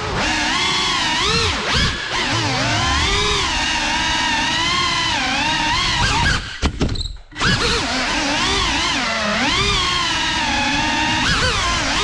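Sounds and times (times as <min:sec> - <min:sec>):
quadcopter motors whining: 0:00.0 - 0:12.0.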